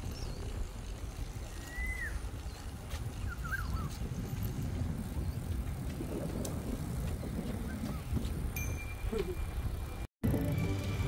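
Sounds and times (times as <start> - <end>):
bicycle road rumble: 0.0 - 11.0
wind on microphone: 0.0 - 11.0.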